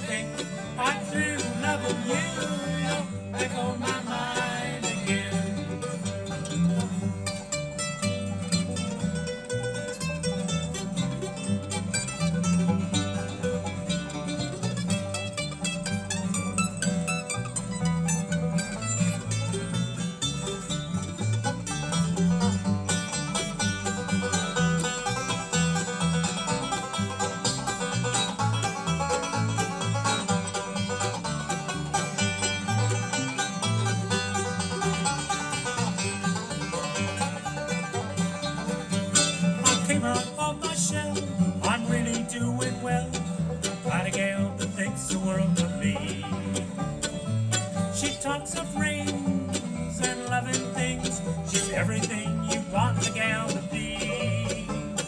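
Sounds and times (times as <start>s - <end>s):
bass line: 0.0s - 55.0s
fast banjo picking: 0.0s - 55.0s
strummed guitar: 0.0s - 55.0s.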